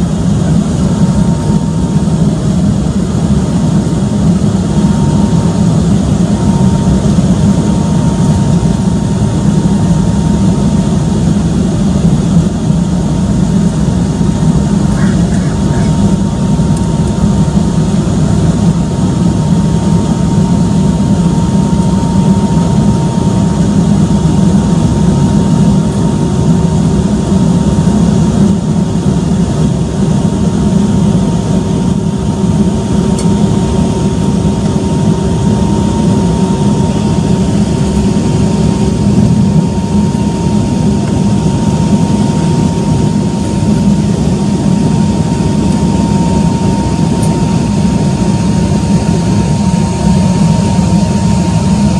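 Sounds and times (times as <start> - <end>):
engine whine: 0.0 - 51.9
jet engines rumbling: 0.0 - 51.9.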